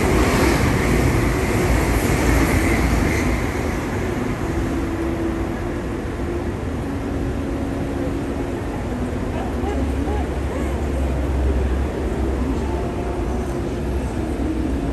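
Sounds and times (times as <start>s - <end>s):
train rumbling past: 0.0s - 14.9s.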